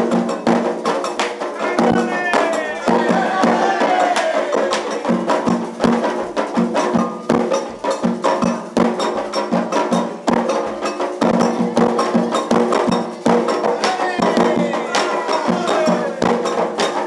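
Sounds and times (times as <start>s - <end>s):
hand drums playing: 0.0s - 17.0s
struck bell: 0.0s - 17.0s.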